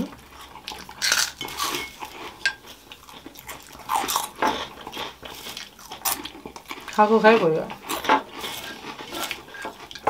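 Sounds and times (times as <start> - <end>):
chewing and biting: 0.3 - 7.0, 7.7 - 10.0.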